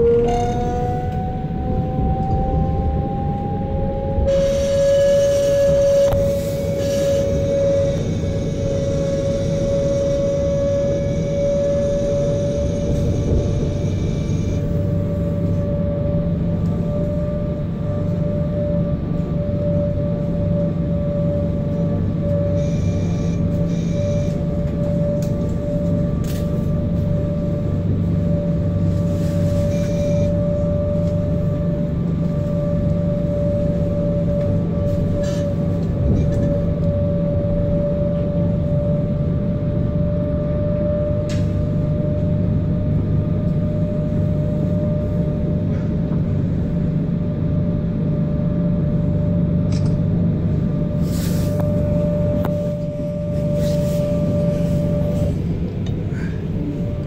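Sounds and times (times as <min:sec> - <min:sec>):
steady whine: 0:00.0 - 0:57.0
train wheels rumbling on track: 0:00.0 - 0:57.0.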